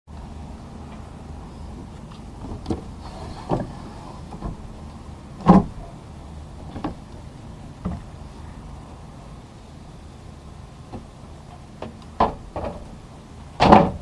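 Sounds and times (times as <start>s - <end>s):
steady low rumble: 0.1s - 14.0s.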